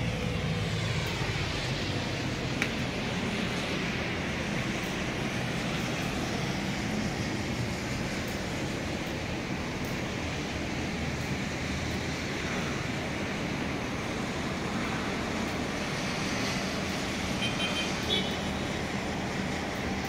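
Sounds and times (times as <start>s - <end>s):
traffic on wet roads: 0.0s - 20.0s.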